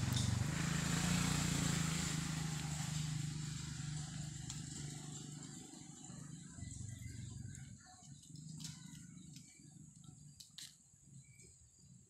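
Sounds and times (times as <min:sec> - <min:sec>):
vehicle engine droning: 0:00.0 - 0:10.5.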